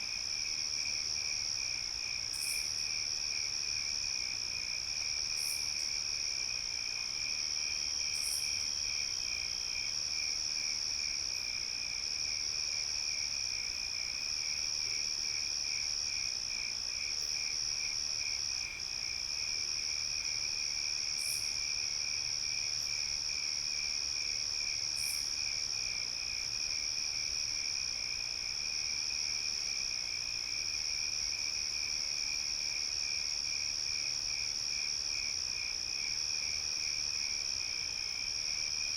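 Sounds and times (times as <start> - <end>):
crickets chirping: 0.1 - 38.9.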